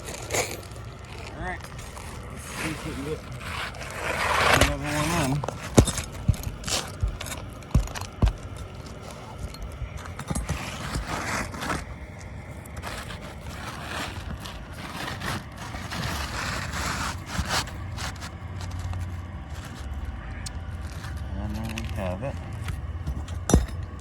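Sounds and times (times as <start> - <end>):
roof shingles scraping: 0.0 - 23.0.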